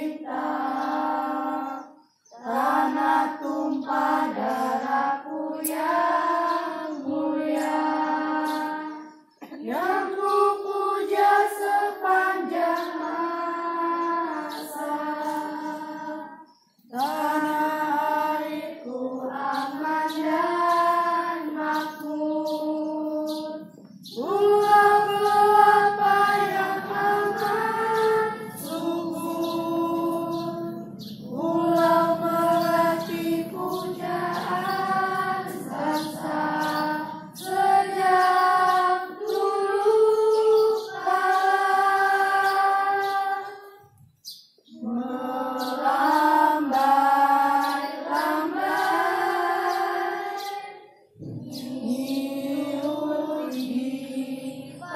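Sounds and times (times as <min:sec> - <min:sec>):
children's choir singing: 0:00.0 - 0:43.9, 0:44.6 - 0:54.9.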